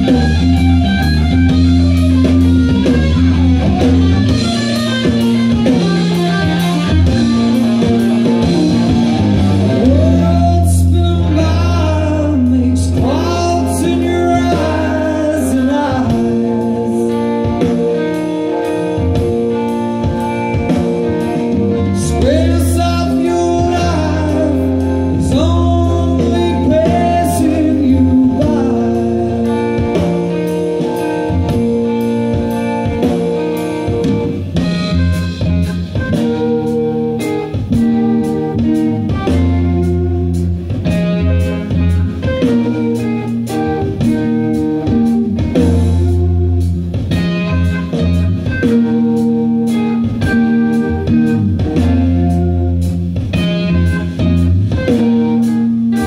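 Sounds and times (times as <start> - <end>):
bass line: 0.0 - 56.0
drums keeping a beat: 0.0 - 56.0
electric guitar bending notes: 0.0 - 56.0.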